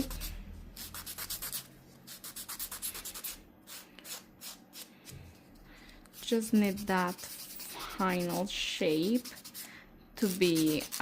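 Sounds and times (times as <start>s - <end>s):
nail file rasping: 0.0s - 4.9s, 6.1s - 11.0s.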